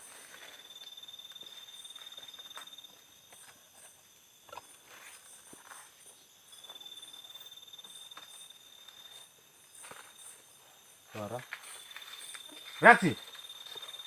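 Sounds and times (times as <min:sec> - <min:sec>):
high pulsing cricket trill: 0:00.0 - 0:14.0
night insects trilling: 0:00.0 - 0:14.0.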